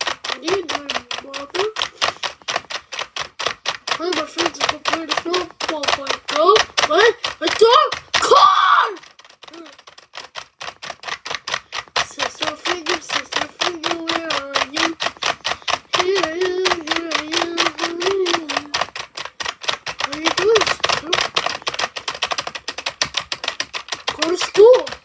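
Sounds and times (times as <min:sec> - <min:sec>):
fast even clicking: 0:00.0 - 0:25.0.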